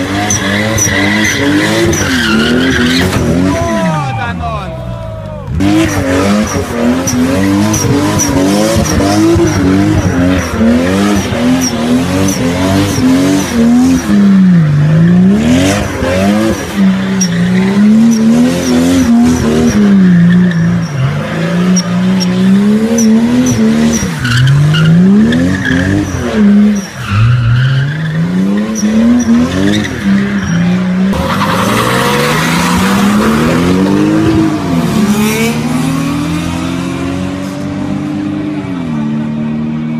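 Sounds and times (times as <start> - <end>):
car engine revving: 0.0 - 4.1, 5.4 - 39.9
tyres squealing on asphalt: 0.0 - 36.1.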